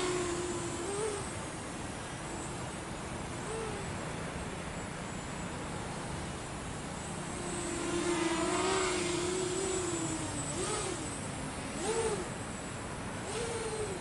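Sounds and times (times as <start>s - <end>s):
quadcopter motors whining: 0.0s - 4.2s, 5.0s - 14.0s.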